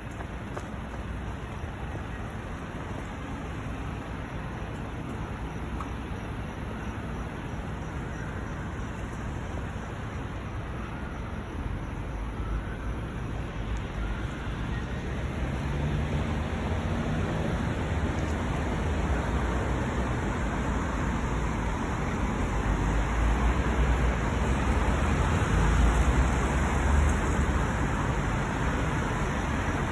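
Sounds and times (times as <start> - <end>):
roadside traffic rumble: 0.0 - 29.9.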